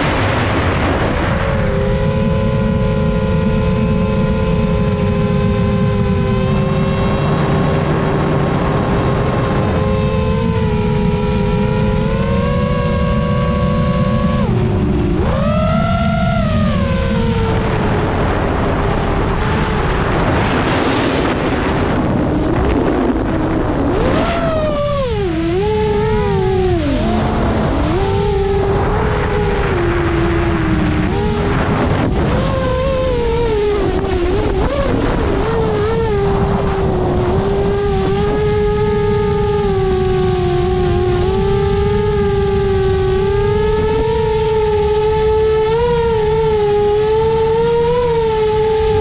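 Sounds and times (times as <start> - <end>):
drone motors whining: 0.0 - 49.0
wind rumble on microphone: 0.0 - 49.0.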